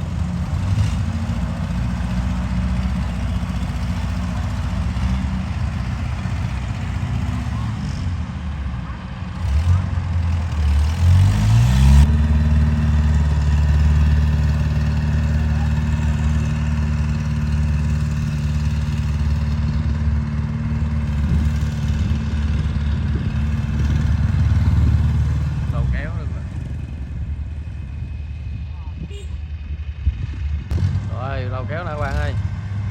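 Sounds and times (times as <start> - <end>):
diesel engine revving: 0.0 - 32.9.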